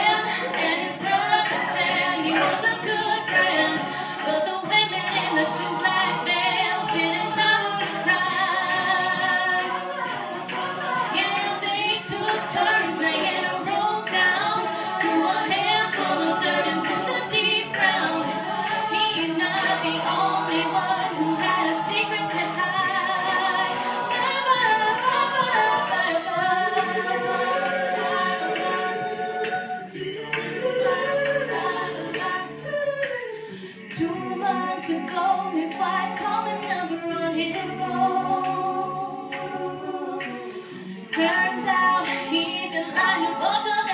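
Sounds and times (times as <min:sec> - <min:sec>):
a cappella group singing: 0:00.0 - 0:43.9.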